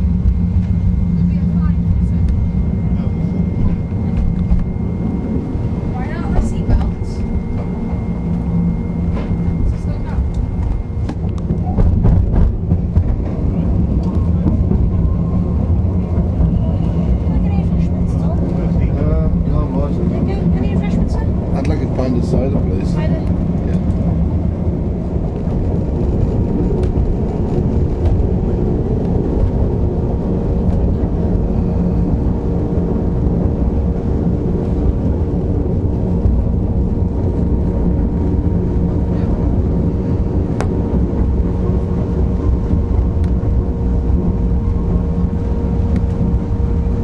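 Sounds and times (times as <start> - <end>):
constant hum: 0.0 - 47.0
train wheels rumbling on track: 0.0 - 47.0.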